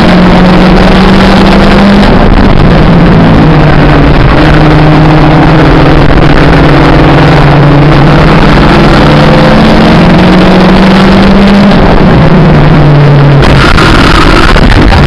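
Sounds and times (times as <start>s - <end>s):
race car engine: 0.0s - 15.0s
road and wind noise: 0.0s - 15.0s.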